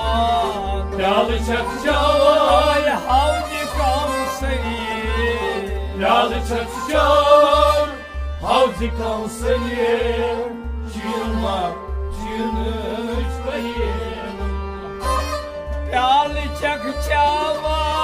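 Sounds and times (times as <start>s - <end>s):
man singing: 0.0s - 14.7s, 15.9s - 18.0s
harmonium: 0.0s - 18.0s.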